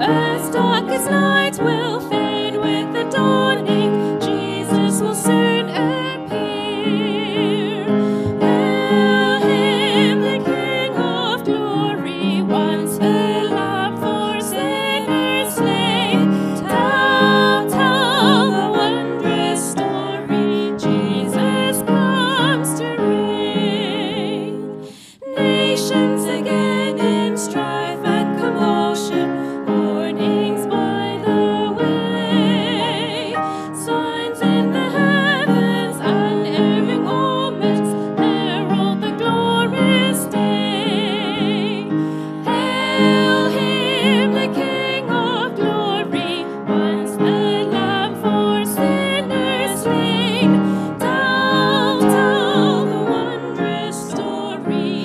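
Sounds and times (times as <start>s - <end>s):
piano accompaniment: 0.0s - 55.0s
woman and girl singing a hymn: 0.0s - 55.0s.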